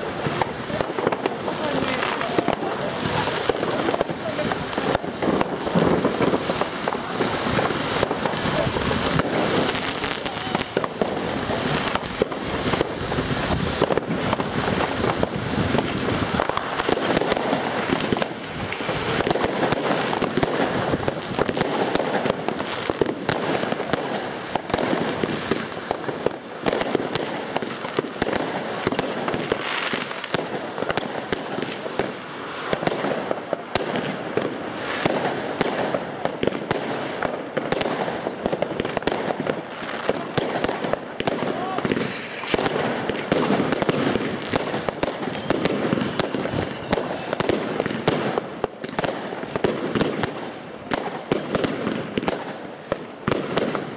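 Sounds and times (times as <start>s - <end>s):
fireworks crackling and popping: 0.0s - 53.9s.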